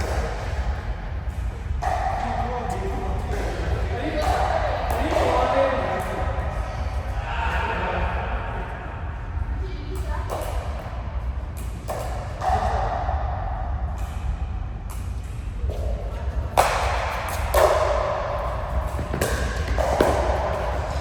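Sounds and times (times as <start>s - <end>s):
ball hits echoing in hall: 0.0s - 8.3s, 9.9s - 21.0s.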